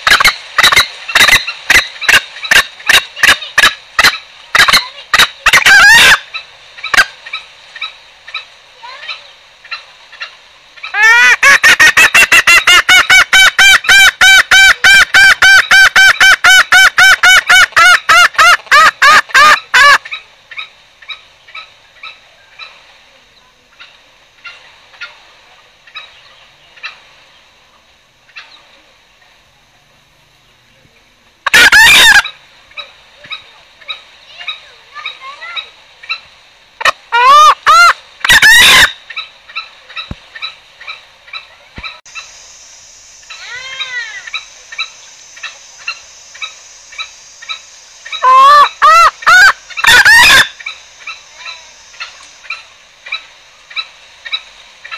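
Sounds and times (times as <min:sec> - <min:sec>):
junglefowl lure calls: 0:00.0 - 0:22.8, 0:31.4 - 0:42.3, 0:43.3 - 0:54.9.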